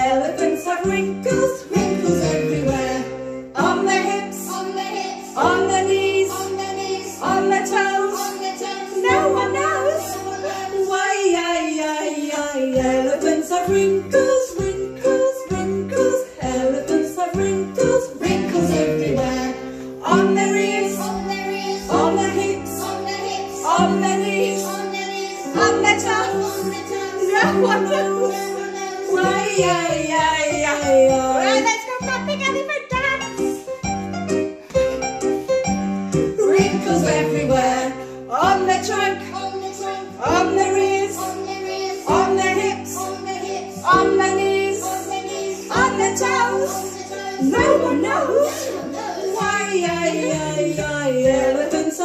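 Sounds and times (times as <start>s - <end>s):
children's song with singing: 0.0s - 35.2s, 36.1s - 52.0s.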